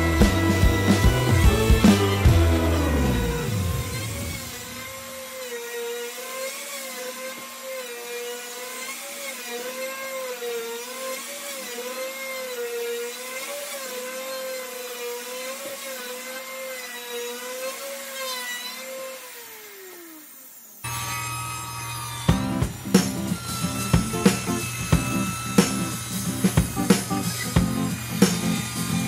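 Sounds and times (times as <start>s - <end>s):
electric router whining: 0.0s - 29.0s.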